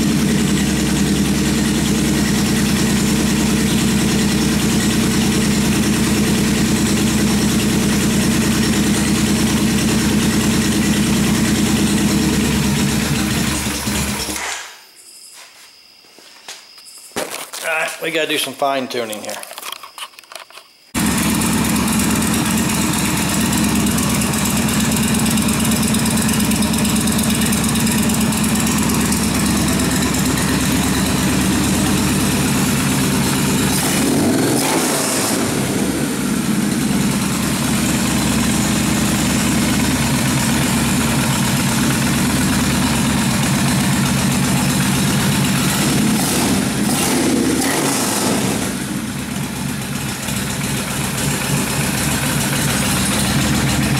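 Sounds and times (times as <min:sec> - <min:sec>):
motorcycle engine idling: 0:00.0 - 0:14.3, 0:21.0 - 0:47.6, 0:48.3 - 0:53.9.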